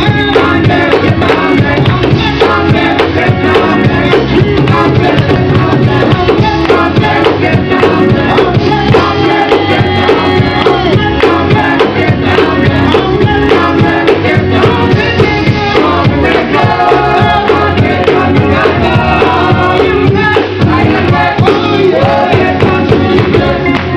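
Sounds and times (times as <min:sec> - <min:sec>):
drums steady beat: 0:00.0 - 0:23.9
gospel group singing with band: 0:00.0 - 0:23.9.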